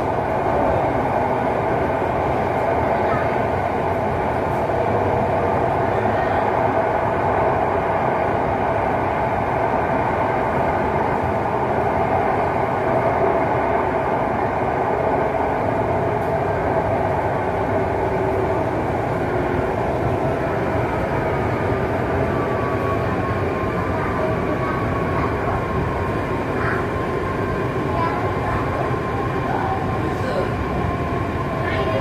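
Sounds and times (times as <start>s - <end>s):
train rumble inside coach: 0.0s - 32.0s.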